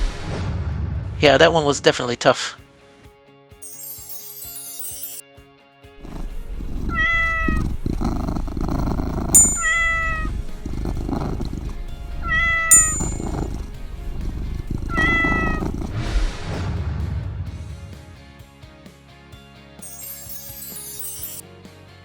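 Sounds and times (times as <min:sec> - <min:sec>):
background music: 0:02.0 - 0:22.0.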